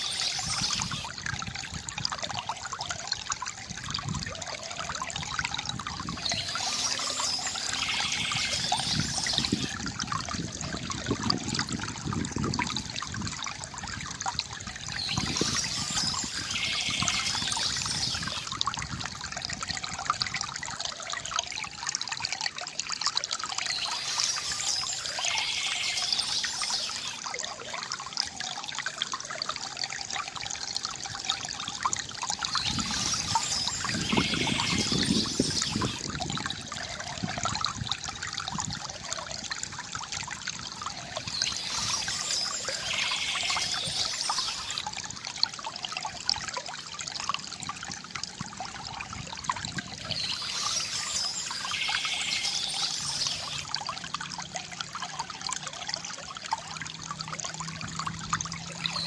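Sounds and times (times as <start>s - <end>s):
water trickling from fountain: 0.0s - 59.0s.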